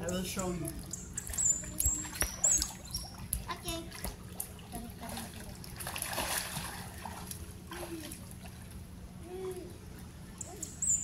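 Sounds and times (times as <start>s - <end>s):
pool water splashing: 0.0s - 11.0s.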